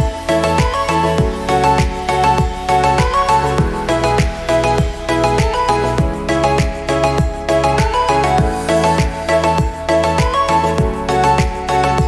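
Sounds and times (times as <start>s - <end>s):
melodic music: 0.0s - 12.0s.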